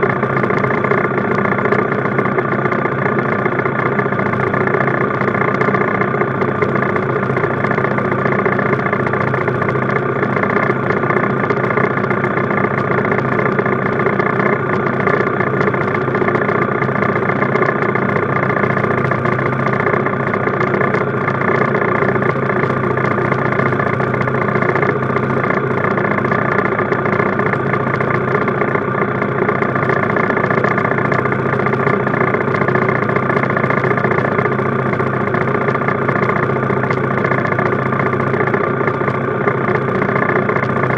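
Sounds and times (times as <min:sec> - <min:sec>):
minibike engine running: 0:00.0 - 0:40.9.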